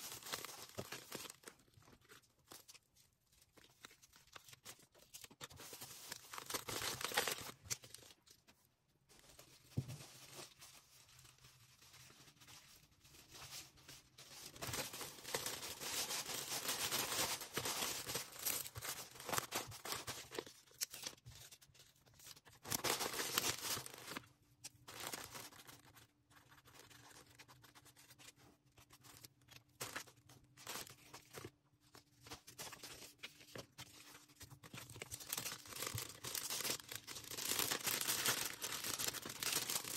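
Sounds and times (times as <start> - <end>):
plastic and paper crinkling: 0.0 - 39.9.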